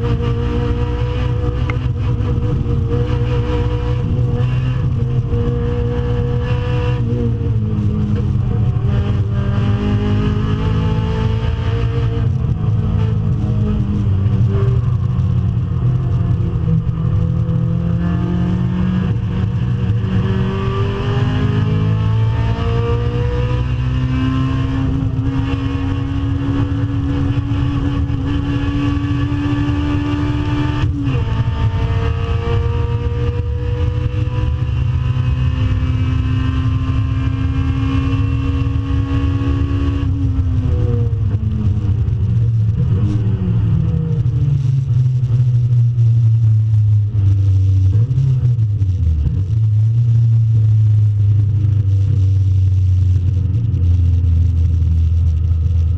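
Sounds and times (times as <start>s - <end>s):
car engine at full throttle: 0.0s - 55.9s.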